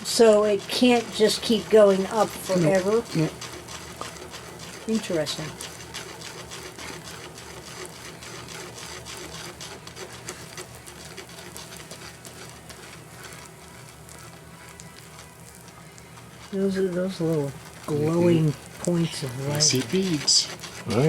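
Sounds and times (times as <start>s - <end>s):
microwave oven humming: 0.0s - 21.0s
molten flux crackling and sizzling: 0.0s - 21.0s.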